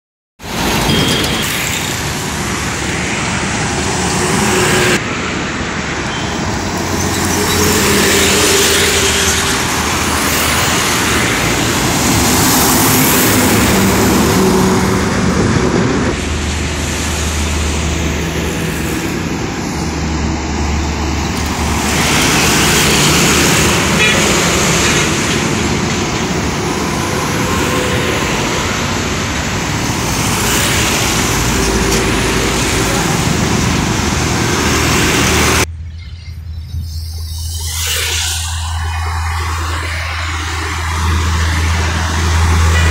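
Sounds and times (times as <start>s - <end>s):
heavy highway traffic: 0.4s - 42.9s.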